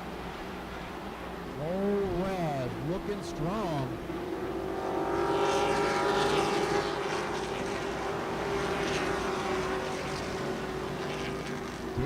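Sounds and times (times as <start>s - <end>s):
race truck engines passing: 0.7s - 12.0s.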